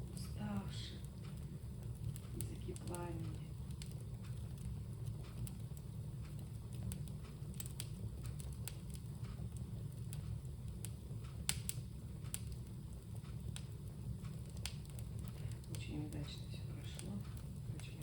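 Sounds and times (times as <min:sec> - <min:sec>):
bonfire crackling and popping: 0:00.0 - 0:18.0
low fire rumble: 0:00.0 - 0:18.0.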